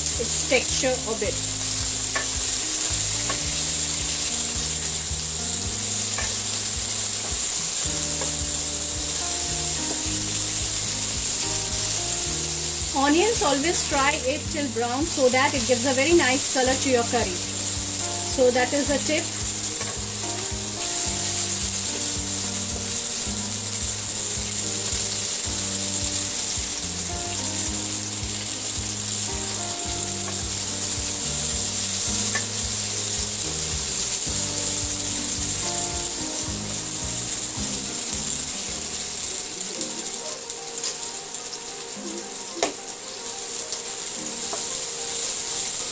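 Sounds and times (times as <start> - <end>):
soft background music: 0.0 - 45.9
vegetables sizzling in oil: 0.0 - 45.9.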